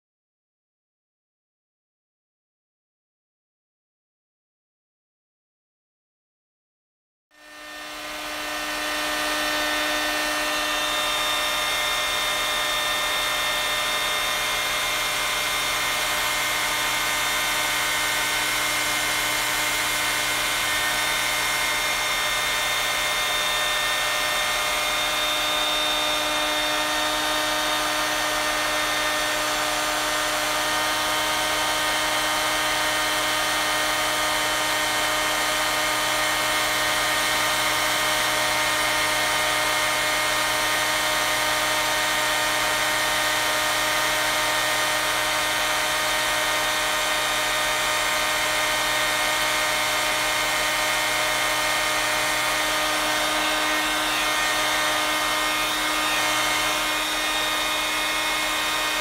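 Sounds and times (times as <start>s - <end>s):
hair dryer running: 7.4s - 59.0s.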